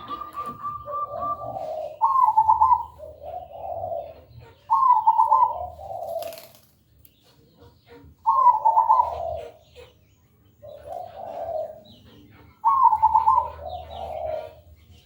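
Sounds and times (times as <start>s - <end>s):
dove cooing: 0.0s - 6.6s, 8.2s - 9.9s, 10.6s - 15.0s.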